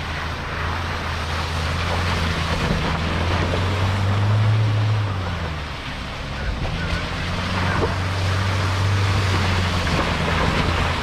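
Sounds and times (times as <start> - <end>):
vehicle engine running: 0.0 - 11.0
water splashing from tyres: 0.0 - 11.0.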